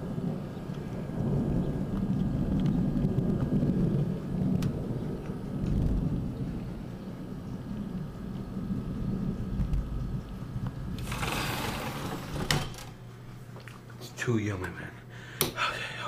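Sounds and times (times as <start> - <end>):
thunder rumbling: 0.0 - 13.4.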